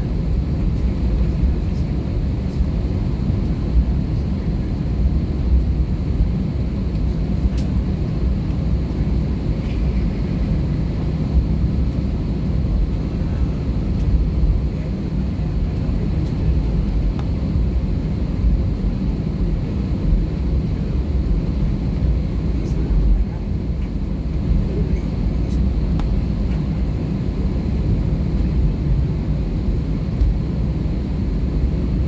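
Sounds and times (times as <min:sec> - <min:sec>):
airplane cabin engine rumble: 0:00.0 - 0:32.0.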